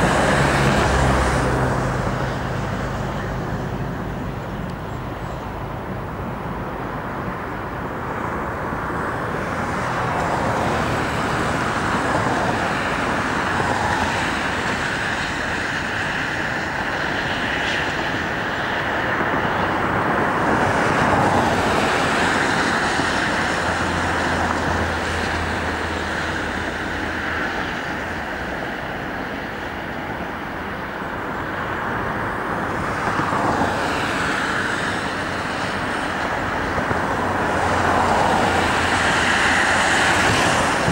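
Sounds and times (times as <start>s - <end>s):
passing vehicles hum: 0.0s - 40.9s.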